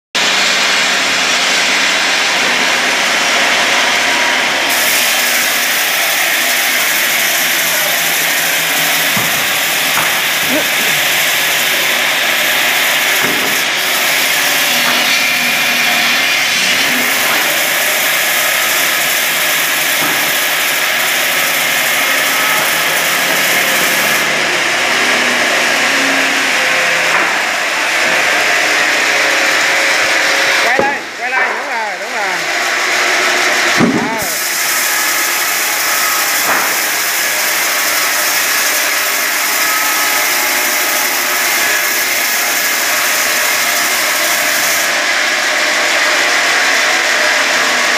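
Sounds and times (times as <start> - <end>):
band saw cutting wood: 0.2 - 47.9.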